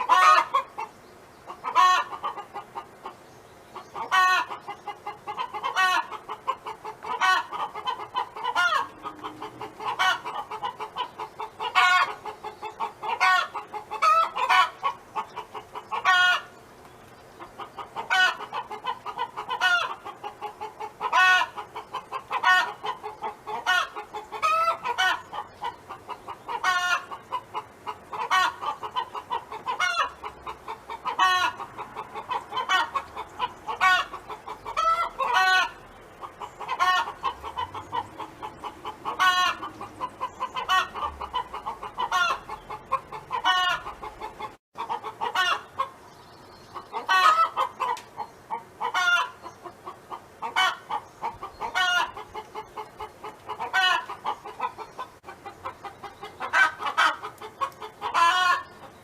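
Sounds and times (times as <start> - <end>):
hen clucking: 0.0 - 59.0.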